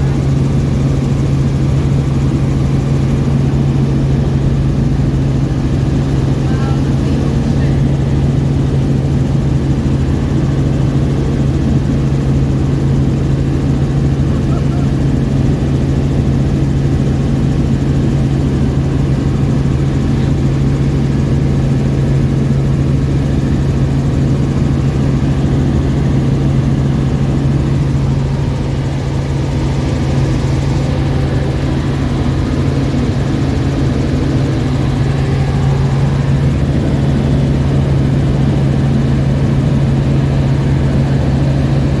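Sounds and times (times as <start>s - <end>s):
helicopter engine and rotor: 0.0s - 42.0s.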